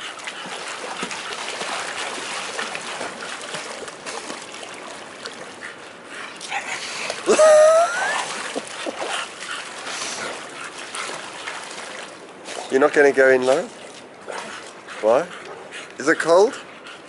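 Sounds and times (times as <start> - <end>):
pool water splashing: 0.0 - 17.0.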